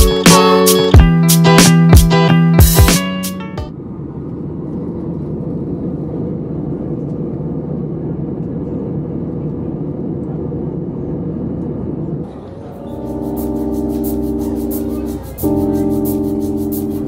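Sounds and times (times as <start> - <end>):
jet engine and airflow rush: 2.9 - 17.0.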